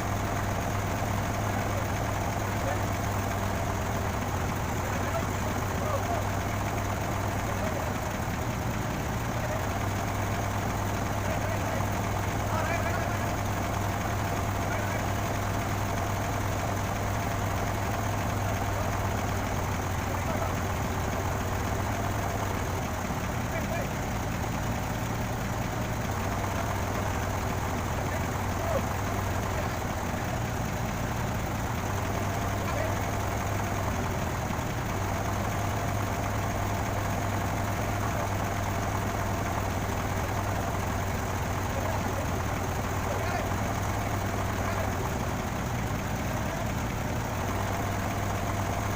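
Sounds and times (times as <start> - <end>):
crane engine idling: 0.0 - 48.9.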